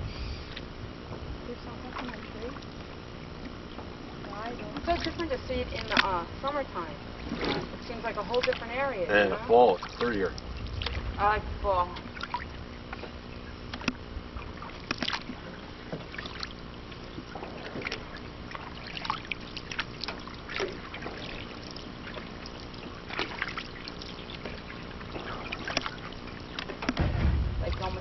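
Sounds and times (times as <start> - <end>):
canoe paddle pulling through water: 0.0 - 28.0
light splashes and drips: 1.5 - 9.1, 9.7 - 28.0.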